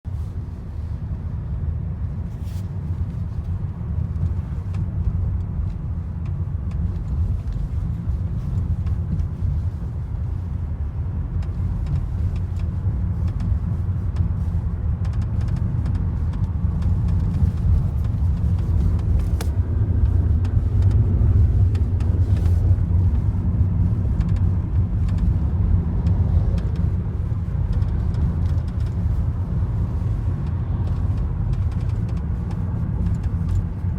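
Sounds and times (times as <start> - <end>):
car road rumble: 0.0 - 33.9.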